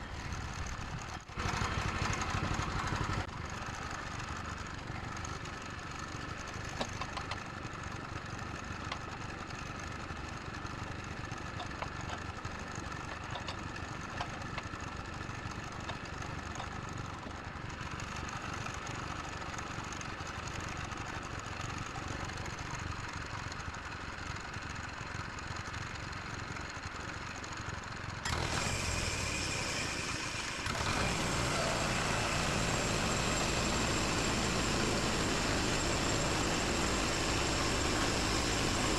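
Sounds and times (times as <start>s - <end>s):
gasoline engine running: 0.0s - 23.3s, 27.6s - 38.9s.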